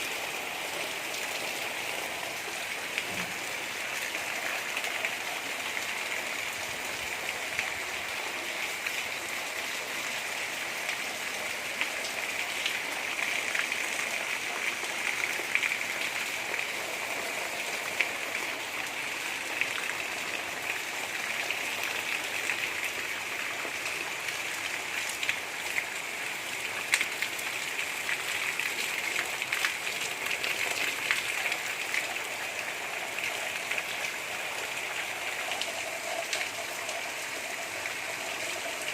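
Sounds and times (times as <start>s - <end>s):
gentle rain hissing: 0.0s - 38.9s
raindrops ticking on surfaces: 0.0s - 38.9s.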